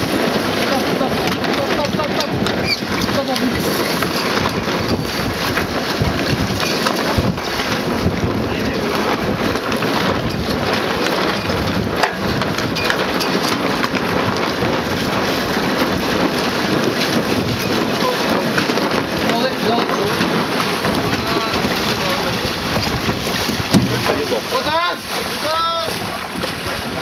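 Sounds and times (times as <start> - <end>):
water rushing past hull: 0.0 - 27.0
wind noise on microphone: 0.0 - 27.0.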